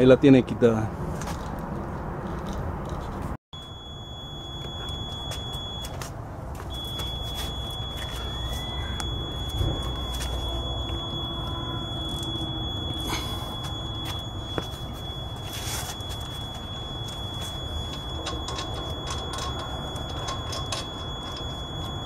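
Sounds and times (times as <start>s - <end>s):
outdoor background noise: 0.0s - 22.0s
steady high-pitched tone: 3.6s - 6.0s, 6.6s - 22.0s.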